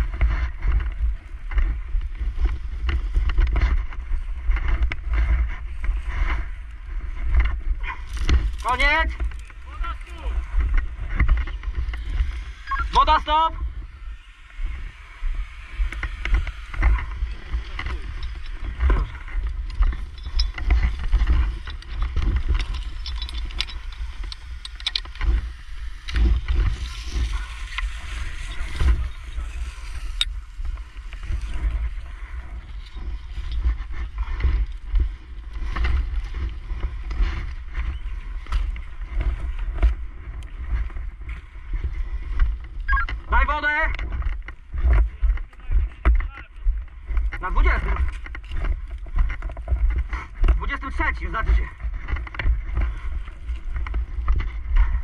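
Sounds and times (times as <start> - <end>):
movement rumble: 0.0 - 55.0
wind buffeting: 0.0 - 55.0.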